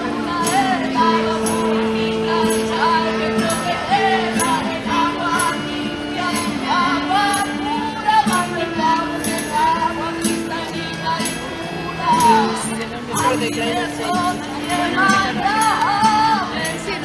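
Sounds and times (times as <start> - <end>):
high wavering melody: 0.0 - 17.0
shaken jingle: 0.0 - 17.0
strummed acoustic guitar: 0.0 - 17.0.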